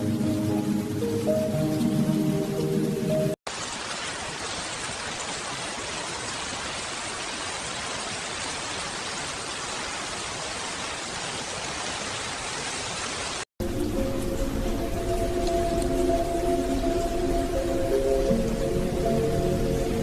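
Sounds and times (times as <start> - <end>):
steady rainfall hiss: 0.0 - 20.0.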